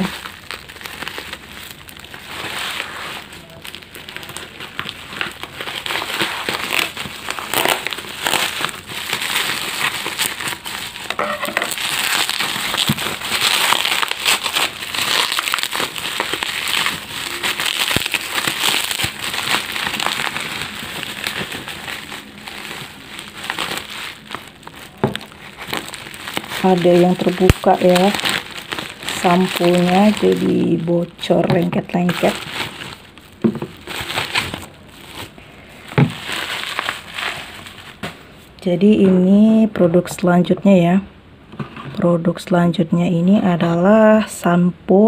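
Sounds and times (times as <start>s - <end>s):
plastic packaging crinkling: 0.0s - 38.3s.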